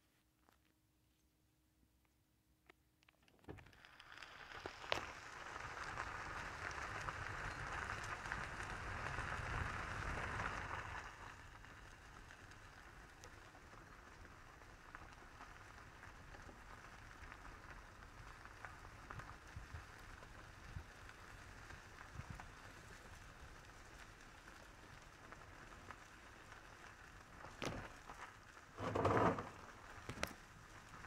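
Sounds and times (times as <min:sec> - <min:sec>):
tyres rolling over gravel: 0:03.4 - 0:31.0.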